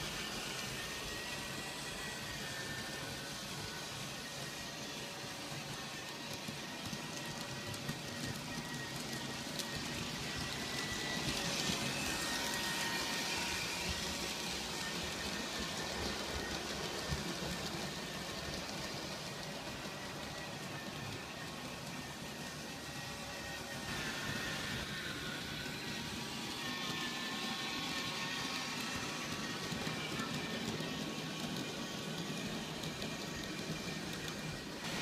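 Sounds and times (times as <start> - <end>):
model train running on track: 0.0 - 35.0
small clicks of train: 0.0 - 35.0.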